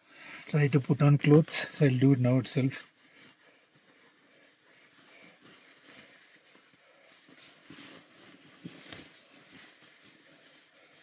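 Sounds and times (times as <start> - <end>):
clothing fabric rustling: 0.0 - 11.0.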